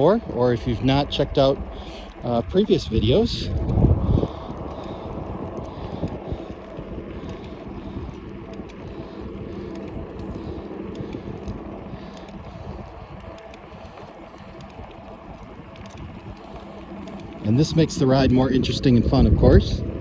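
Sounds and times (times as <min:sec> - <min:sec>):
bike tyres rolling: 0:00.0 - 0:20.0
faint steady hum: 0:00.0 - 0:20.0
wind rumbling on microphone: 0:00.0 - 0:20.0.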